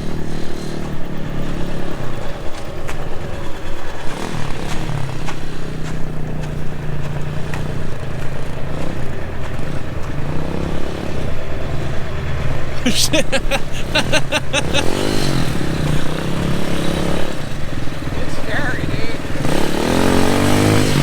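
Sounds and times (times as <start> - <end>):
dirt bike engine running: 0.0 - 12.9, 13.5 - 21.0.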